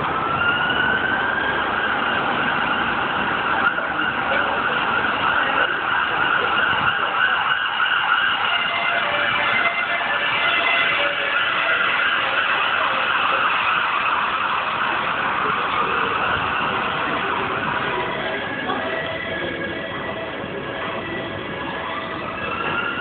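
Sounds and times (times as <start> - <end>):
emergency vehicle siren: 0.0 - 23.0
street traffic: 0.0 - 23.0.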